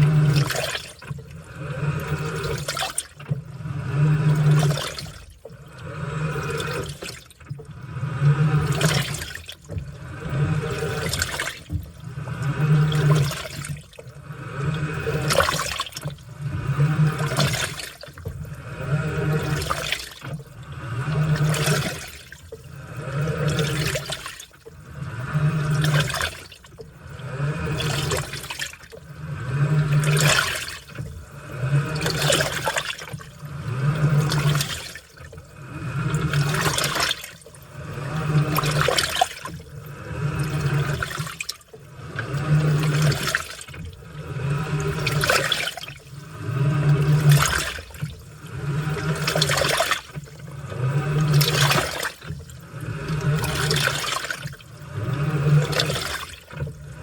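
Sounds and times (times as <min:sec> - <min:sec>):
washing machine motor humming: 0:00.0 - 0:57.0
water and laundry sloshing: 0:00.0 - 0:57.0.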